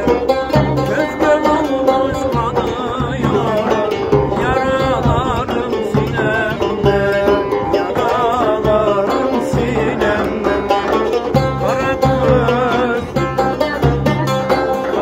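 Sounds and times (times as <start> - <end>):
man singing: 0.0 - 15.0
plucked lute: 0.0 - 15.0.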